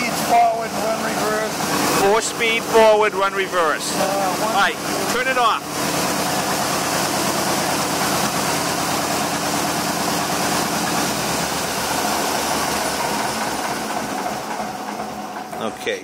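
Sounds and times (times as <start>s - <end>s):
bulldozer engine idling: 0.0s - 16.0s.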